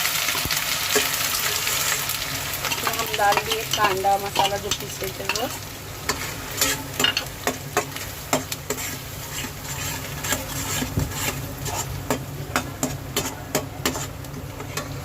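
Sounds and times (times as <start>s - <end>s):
onion paste sizzling in oil: 0.0s - 15.0s
spoon scraping a pan: 0.9s - 15.0s.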